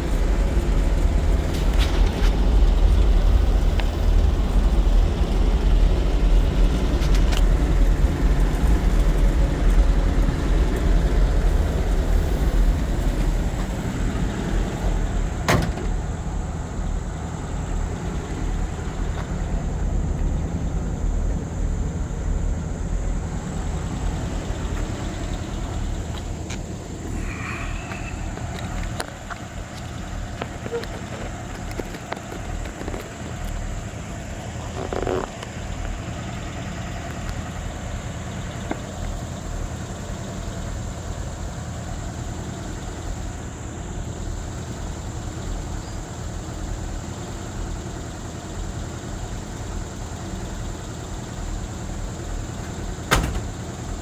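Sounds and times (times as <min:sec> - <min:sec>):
truck engine low rumble: 0:00.0 - 0:54.0.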